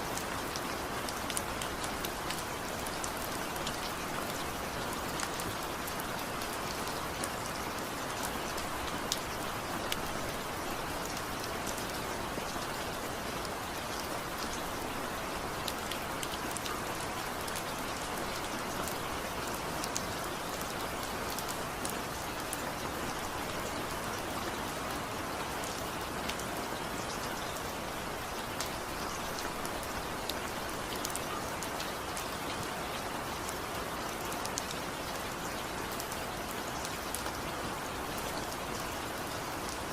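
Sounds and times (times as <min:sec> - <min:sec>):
raindrops pattering on a surface: 0:00.0 - 0:39.9
steady rain hiss: 0:00.0 - 0:39.9.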